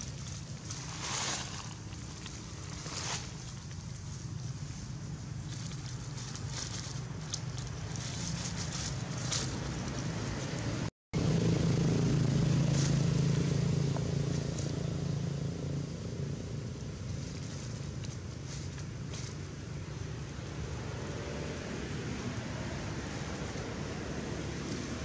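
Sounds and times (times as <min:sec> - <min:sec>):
dry leaves rustling: 0:00.0 - 0:25.0
low engine hum: 0:00.0 - 0:25.0.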